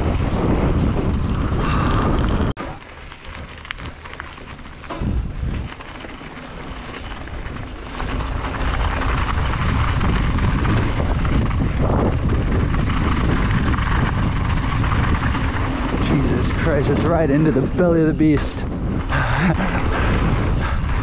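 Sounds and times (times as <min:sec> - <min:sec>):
wind rush: 0:00.0 - 0:02.6, 0:03.2 - 0:21.0
bike tyre rumble on trail: 0:00.0 - 0:21.0.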